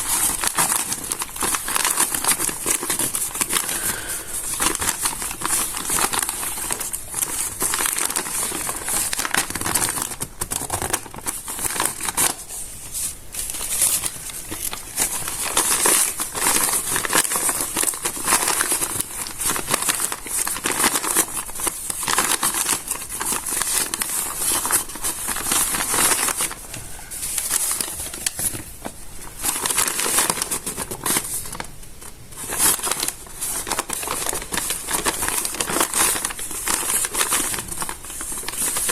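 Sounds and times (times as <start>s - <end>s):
stiff paper crinkling: 0.0s - 38.9s.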